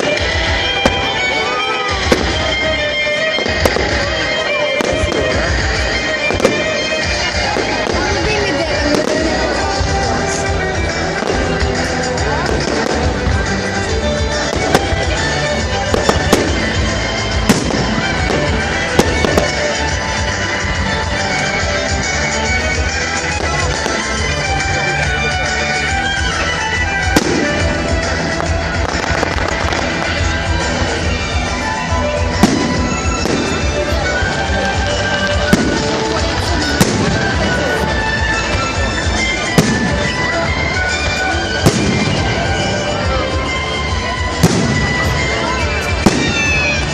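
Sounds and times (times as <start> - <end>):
fireworks bangs: 0.0 - 46.9
music playing: 0.0 - 46.9.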